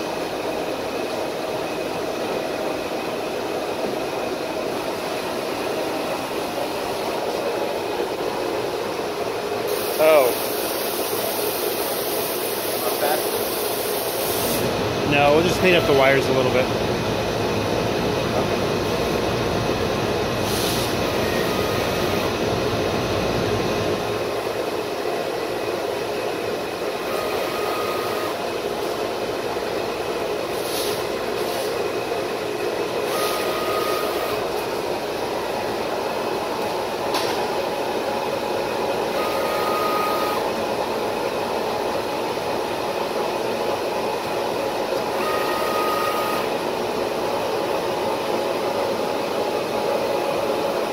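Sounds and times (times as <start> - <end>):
cutting table running: 0.0 - 50.9.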